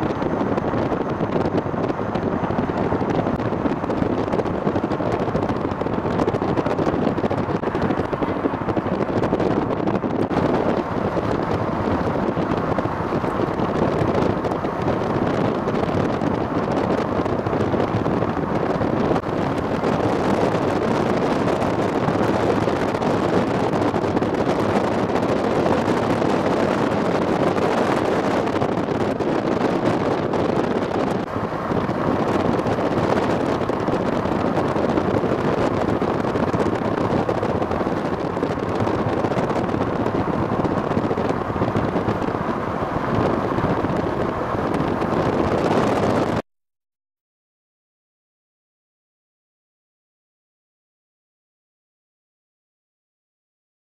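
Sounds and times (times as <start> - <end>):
vehicle wind and road noise: 0.0 - 46.5.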